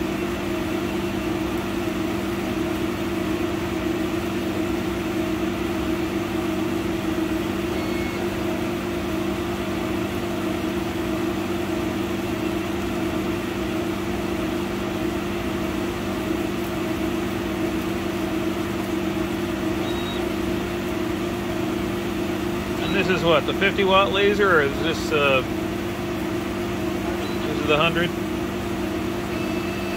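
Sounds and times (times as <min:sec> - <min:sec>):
laser cutter machine hum: 0:00.0 - 0:29.9.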